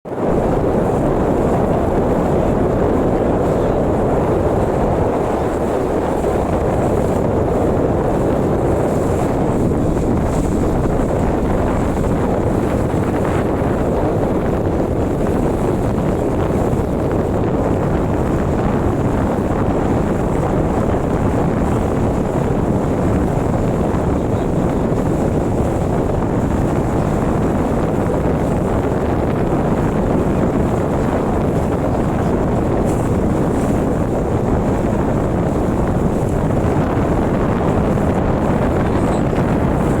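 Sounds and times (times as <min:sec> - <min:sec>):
wind buffeting microphone: 0:00.0 - 0:40.0
rushing water: 0:00.1 - 0:40.0.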